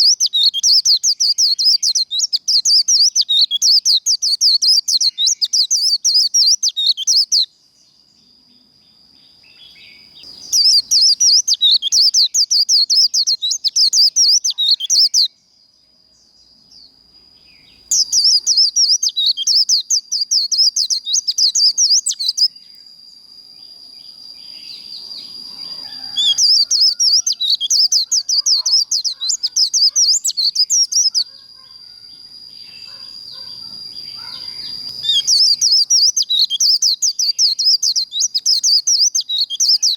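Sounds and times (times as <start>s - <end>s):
bird chattering song: 0.0s - 7.5s, 9.5s - 15.5s, 16.6s - 22.8s, 24.4s - 39.9s.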